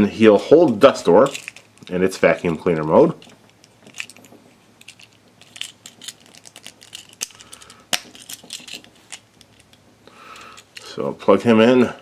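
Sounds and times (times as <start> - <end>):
plastic toy parts clicking: 0.6 - 4.2, 4.8 - 10.9.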